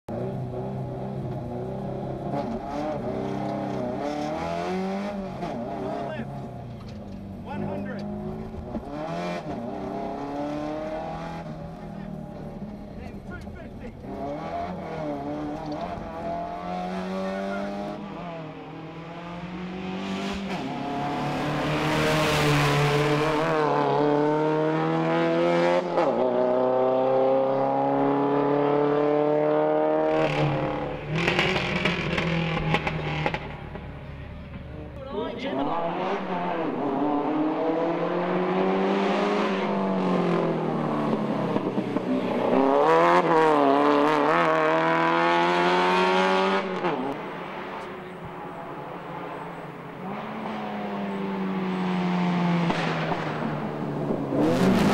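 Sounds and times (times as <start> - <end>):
rally car engine revving: 0.1 - 54.9.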